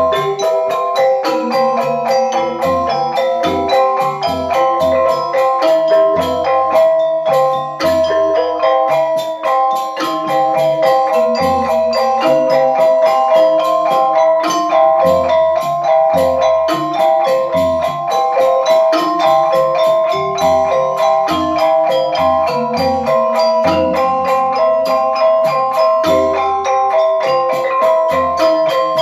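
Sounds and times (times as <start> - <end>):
metallophones ringing: 0.0 - 29.0.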